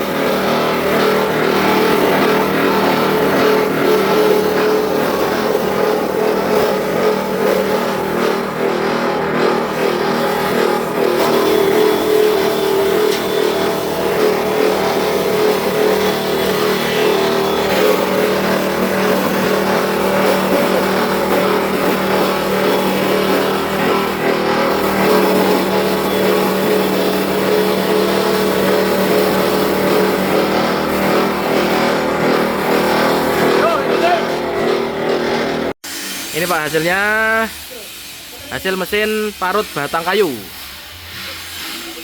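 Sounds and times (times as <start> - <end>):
electric motor hum: 0.0 - 37.5
wood grinding noise: 0.0 - 37.7.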